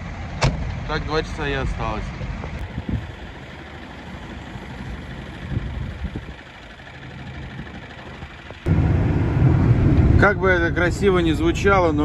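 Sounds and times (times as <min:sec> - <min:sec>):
truck driving rumble: 0:00.0 - 0:12.0
truck engine idling: 0:02.3 - 0:12.0.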